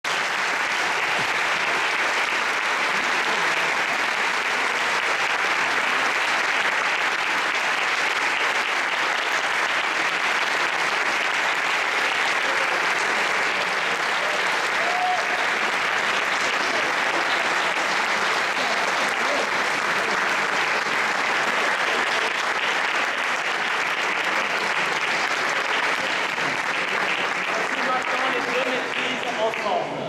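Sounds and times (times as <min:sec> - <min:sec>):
audience applause: 0:00.0 - 0:30.0.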